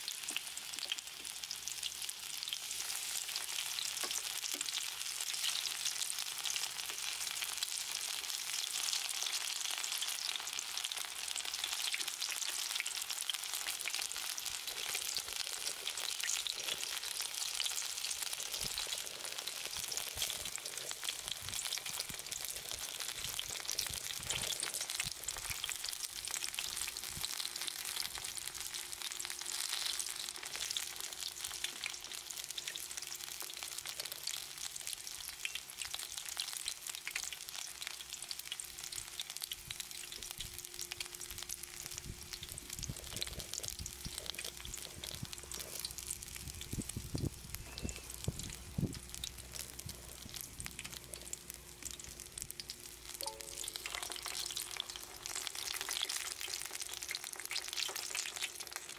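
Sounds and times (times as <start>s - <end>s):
tempura deep-frying in oil: 0.0s - 58.9s.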